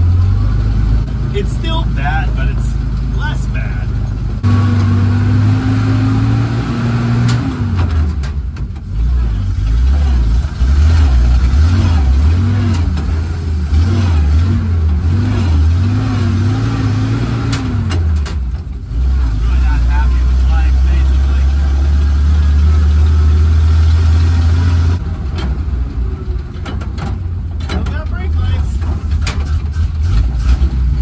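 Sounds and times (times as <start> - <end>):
truck engine driving: 0.0 - 31.0.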